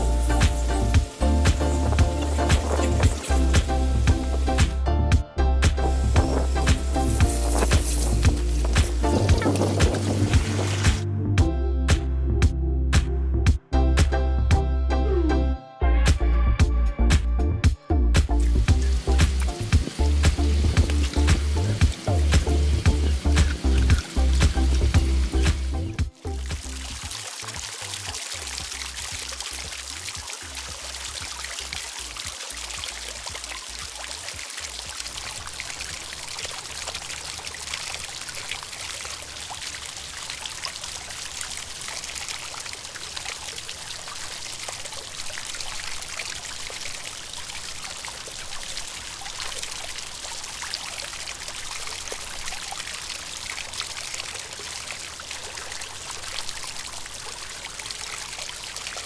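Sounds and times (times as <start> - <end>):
water trickling into a pond: 0.0 - 4.8, 5.7 - 11.0, 18.4 - 59.0.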